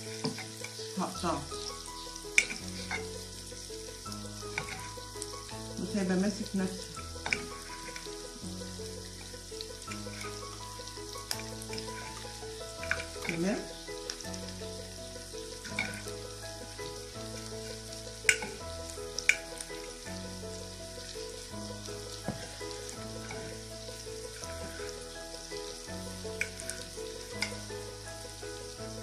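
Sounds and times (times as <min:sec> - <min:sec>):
onions sizzling in pan: 0:00.0 - 0:29.0.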